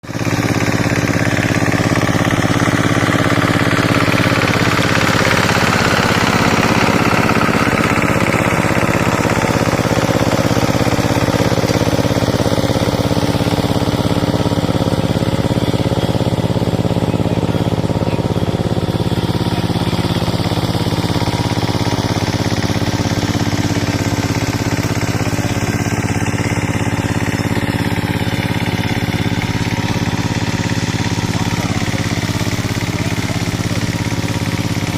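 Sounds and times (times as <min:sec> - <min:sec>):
diesel tiller engine running: 0:00.0 - 0:34.9.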